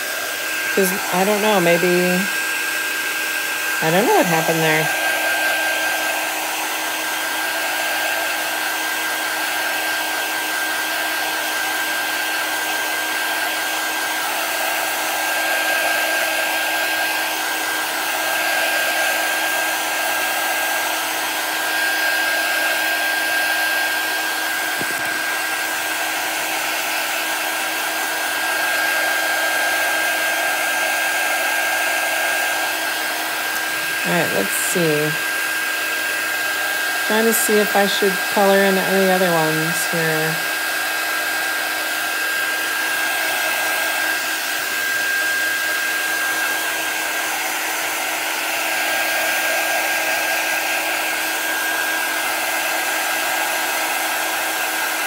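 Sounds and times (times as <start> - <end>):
heat tool blowing with whine: 0.0 - 55.0.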